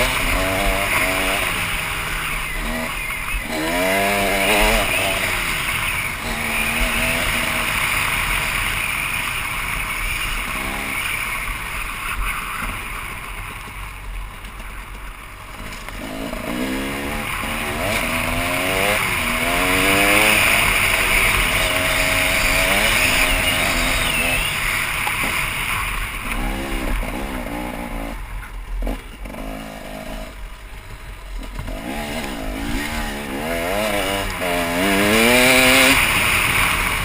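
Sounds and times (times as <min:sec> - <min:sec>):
two-stroke dirt bike revving: 0:00.0 - 0:37.0.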